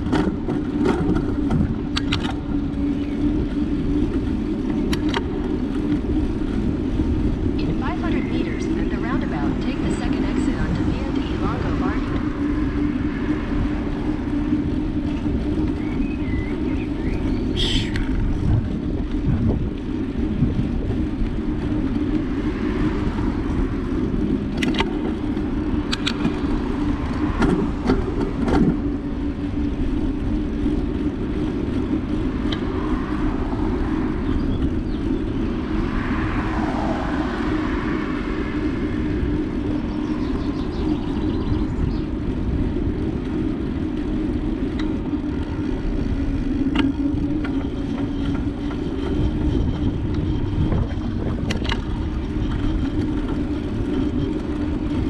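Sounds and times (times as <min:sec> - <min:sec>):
wind and road rumble from bicycle: 0:00.0 - 0:55.0.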